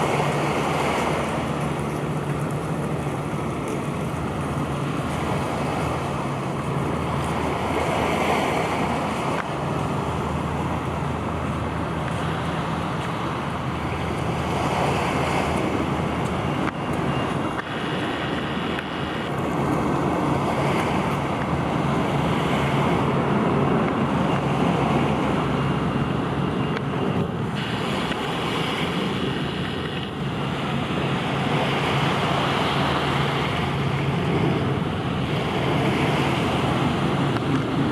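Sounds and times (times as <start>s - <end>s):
steady low hum: 0.0s - 37.9s
wind buffeting microphone: 0.0s - 37.9s.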